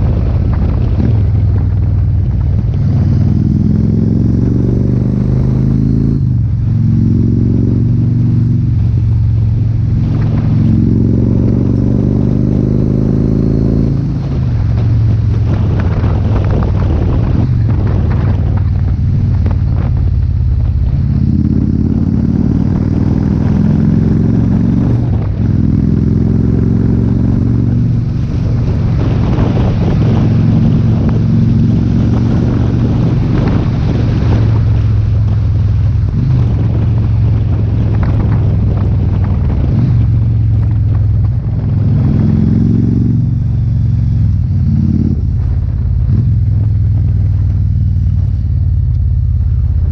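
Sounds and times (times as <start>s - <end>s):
motorcycle engine deep exhaust note: 0.0s - 49.9s.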